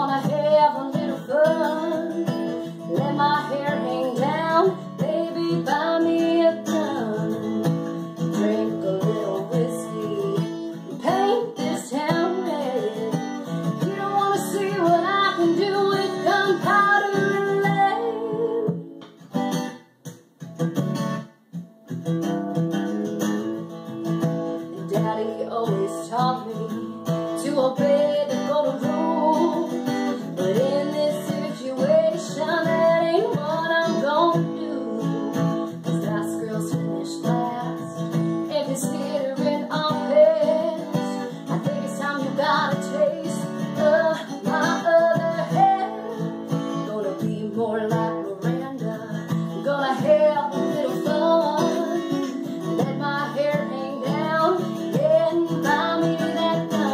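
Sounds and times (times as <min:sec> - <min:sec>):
woman singing: 0:00.0 - 0:19.0, 0:23.6 - 0:56.9
strummed acoustic guitar: 0:00.0 - 0:56.9.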